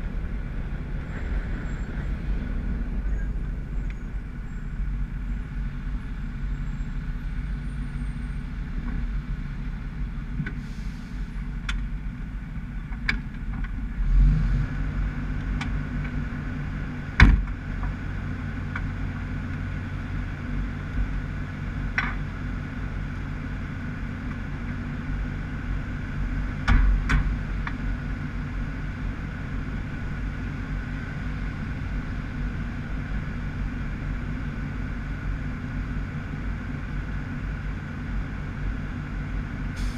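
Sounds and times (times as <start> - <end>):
fire truck engine running: 0.0 - 14.0, 14.9 - 39.9.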